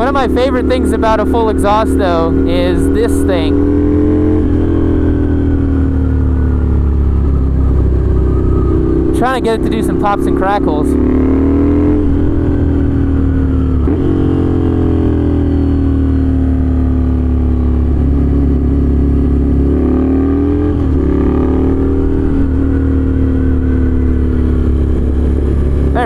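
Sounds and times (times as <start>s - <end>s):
loud motorcycle engine revving: 0.0s - 26.0s.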